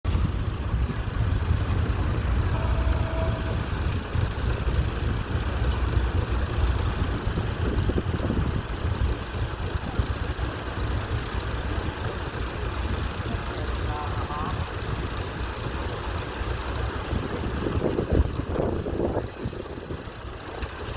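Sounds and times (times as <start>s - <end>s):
tractor engine rumbling: 0.0s - 20.9s.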